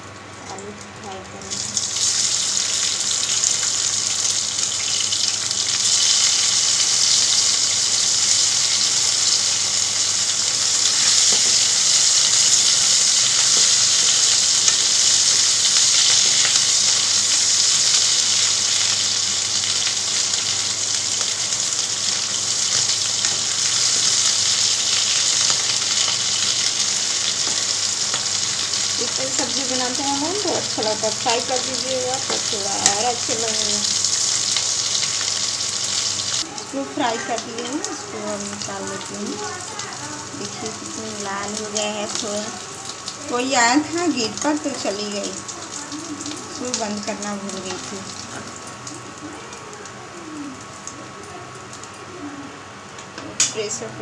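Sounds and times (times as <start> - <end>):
potatoes sizzling in oil: 0.0 - 54.0.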